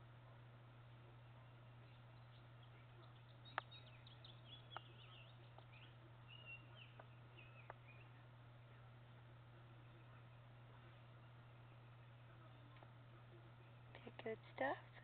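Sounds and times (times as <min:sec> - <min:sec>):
songbird chirping: 0:00.0 - 0:15.0
steady low hum: 0:00.0 - 0:15.0.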